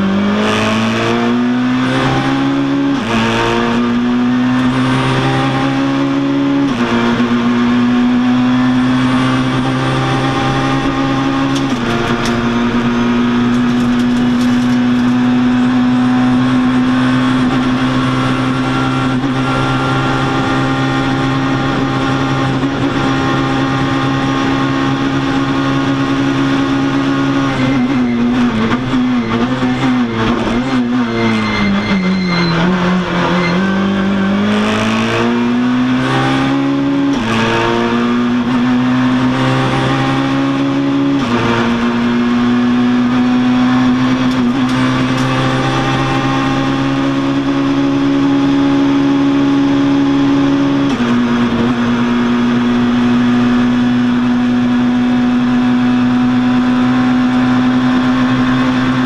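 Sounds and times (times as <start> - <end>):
rally car engine running hard: 0.0 - 59.0.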